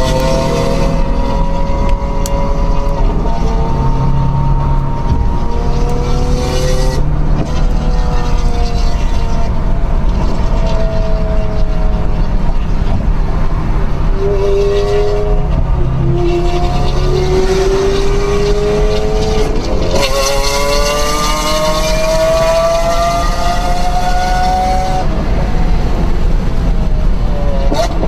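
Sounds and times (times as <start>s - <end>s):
car engines passing: 0.0s - 28.0s
road rumble: 0.0s - 28.0s.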